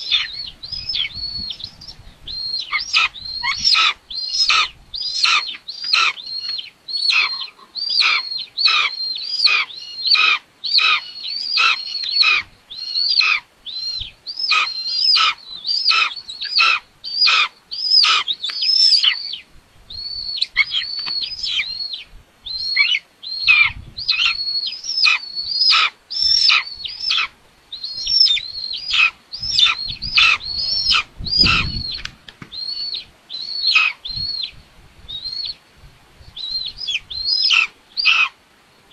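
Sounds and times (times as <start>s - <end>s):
young buzzards begging calls: 0.0s - 32.0s, 32.6s - 34.6s, 36.4s - 38.4s.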